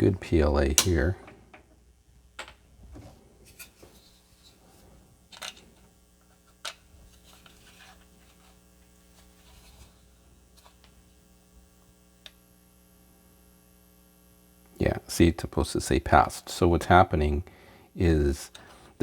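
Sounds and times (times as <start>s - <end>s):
faint mains hum: 0.0s - 19.0s.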